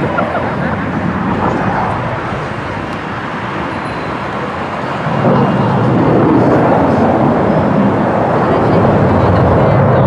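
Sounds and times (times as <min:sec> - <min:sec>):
jet engine rushing: 0:00.0 - 0:10.0.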